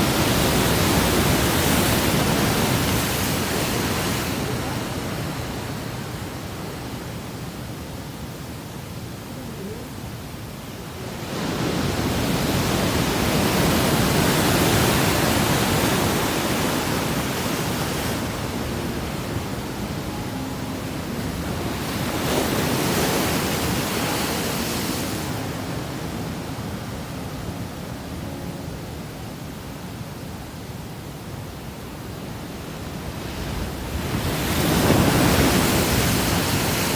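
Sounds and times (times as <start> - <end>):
waves breaking on beach: 0.0 - 36.9.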